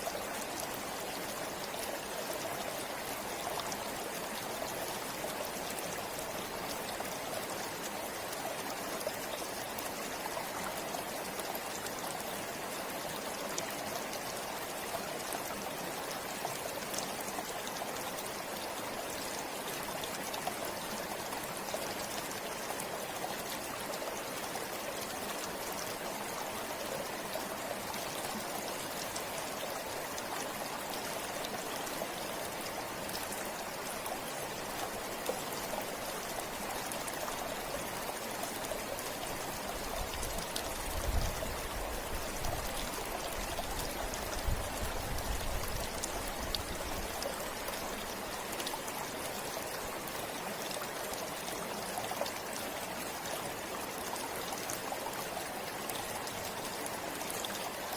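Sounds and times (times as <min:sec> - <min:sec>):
stream flowing: 0:00.0 - 0:57.9
water splashes and trickles: 0:00.0 - 0:57.9.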